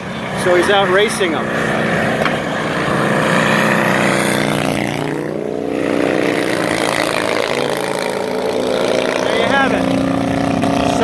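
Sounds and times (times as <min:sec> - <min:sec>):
racing motorcycles engines: 0:00.0 - 0:11.0.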